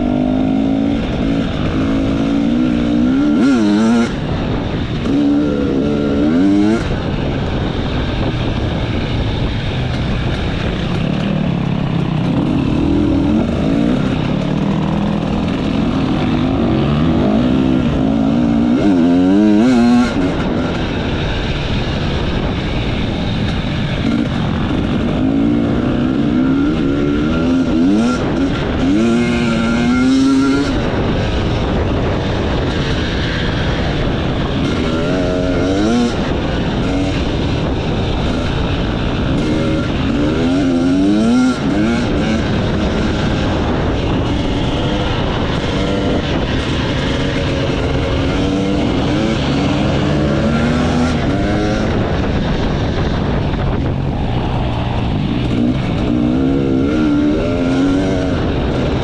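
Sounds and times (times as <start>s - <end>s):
motorcycle engine revving: 0.0s - 59.0s
wind and ground noise: 0.0s - 59.0s.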